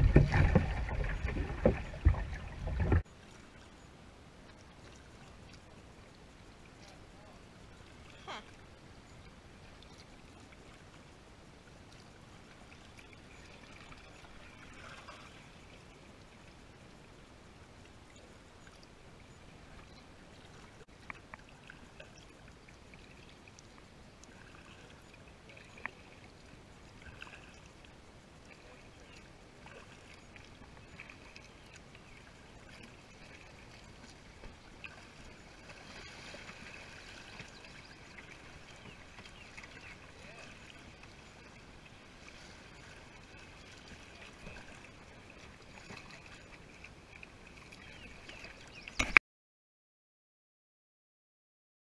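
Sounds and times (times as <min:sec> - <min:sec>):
creek water rippling: 0:00.0 - 0:49.2.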